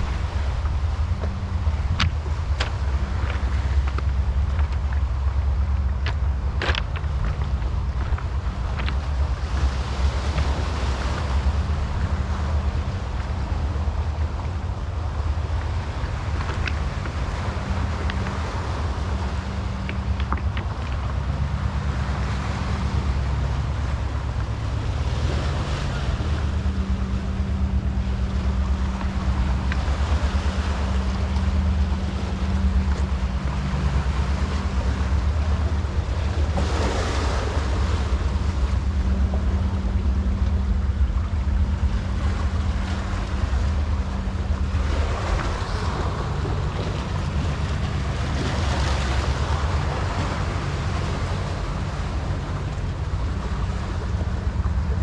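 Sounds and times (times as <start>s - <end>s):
low engine drone: 0.0s - 55.0s
sea water washing: 0.0s - 55.0s.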